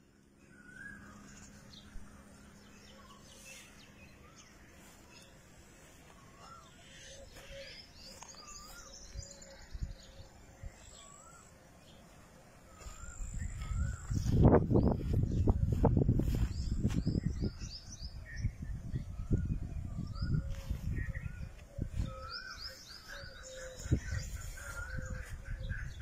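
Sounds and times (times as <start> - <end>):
birds twittering: 0.0 - 26.0
steady outdoor hiss: 0.0 - 26.0.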